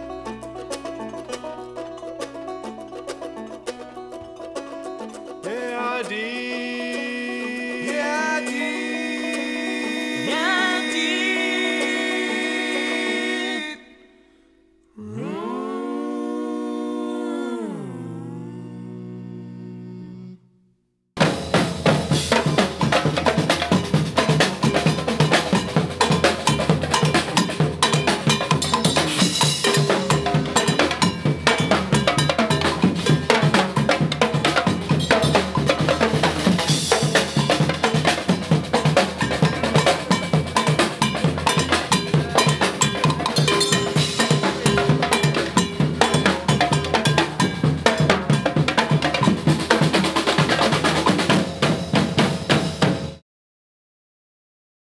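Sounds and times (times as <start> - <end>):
fast drum rhythm: 0.0 - 13.6, 21.2 - 53.2.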